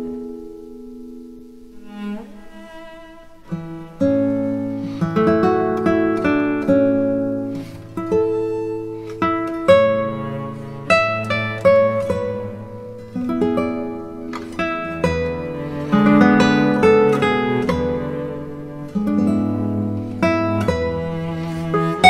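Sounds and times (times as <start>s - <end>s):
acoustic guitar melody: 0.0s - 22.0s.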